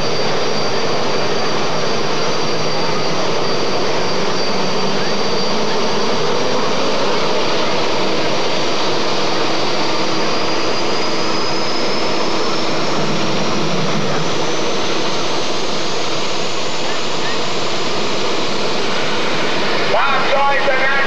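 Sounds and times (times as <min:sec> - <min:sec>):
deep engine rumble: 0:00.0 - 0:21.0
high whine rising in pitch: 0:00.0 - 0:21.0
tractor engines running loud: 0:00.0 - 0:21.0.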